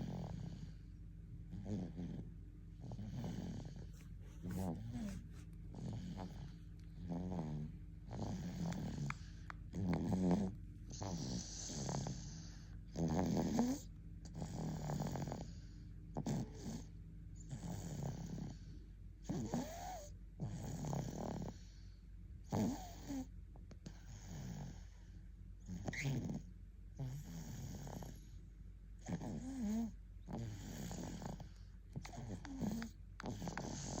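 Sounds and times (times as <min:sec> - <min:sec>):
child snoring: 0:00.0 - 0:00.8, 0:01.5 - 0:21.8, 0:22.4 - 0:25.0, 0:25.6 - 0:28.4, 0:29.0 - 0:34.0.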